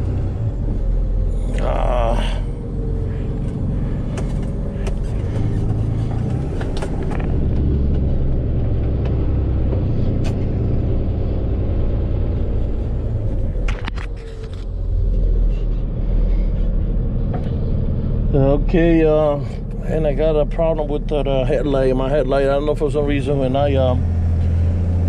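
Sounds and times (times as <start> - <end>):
road noise inside cab: 0.0 - 25.0
truck engine rumble: 0.0 - 25.0.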